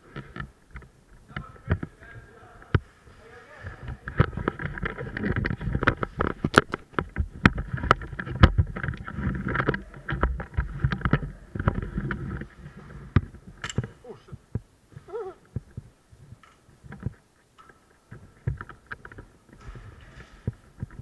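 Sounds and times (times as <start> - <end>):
sharp clicks and knocks: 0.1 - 2.9, 3.6 - 14.7, 15.4 - 21.0.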